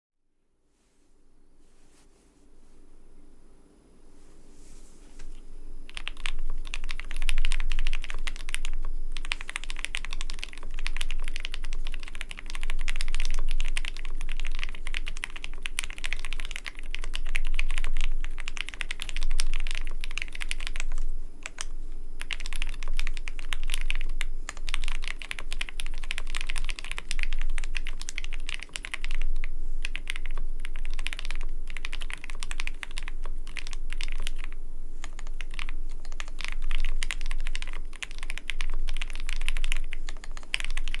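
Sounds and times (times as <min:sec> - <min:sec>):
mechanical keyboard typing: 0:05.9 - 0:41.0.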